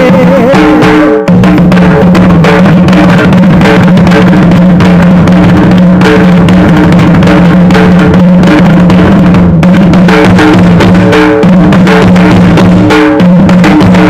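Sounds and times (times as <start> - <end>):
dhol drum beating: 0.0 - 14.0.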